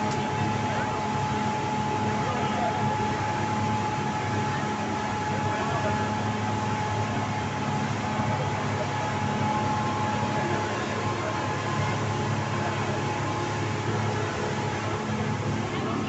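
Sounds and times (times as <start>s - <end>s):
outboard motors droning: 0.0s - 16.0s.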